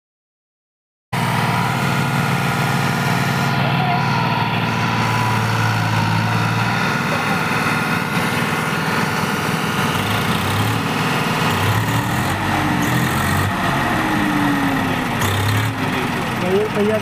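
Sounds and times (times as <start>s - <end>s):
diesel tractor engines under load: 1.2s - 17.0s.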